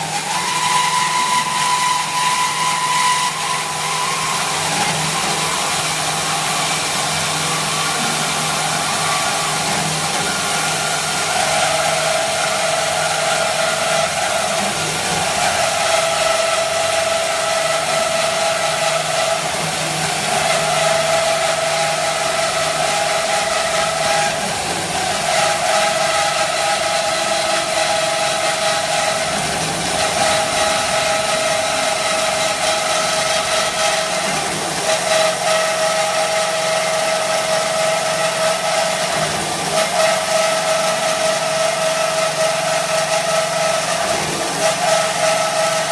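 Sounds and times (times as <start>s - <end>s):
band saw whining: 0.0s - 45.9s.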